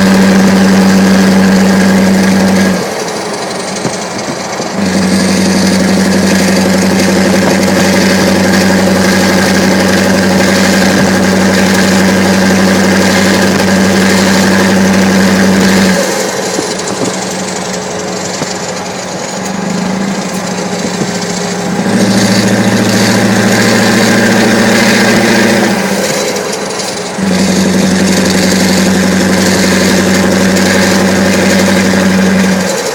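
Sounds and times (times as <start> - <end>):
loud unsilenced diesel engine: 0.0 - 32.9.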